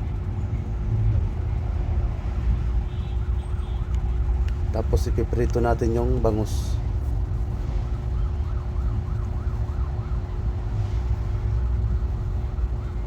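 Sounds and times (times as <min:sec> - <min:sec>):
constant hum: 0:00.0 - 0:13.0
steady low rumble: 0:00.0 - 0:13.0
fast wavering siren wail: 0:01.5 - 0:13.0.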